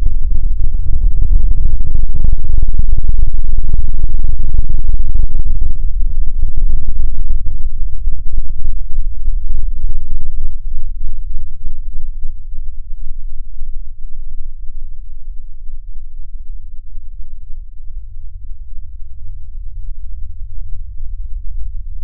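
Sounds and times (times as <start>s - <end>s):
deep crackling distorted rumble: 0.0s - 22.0s.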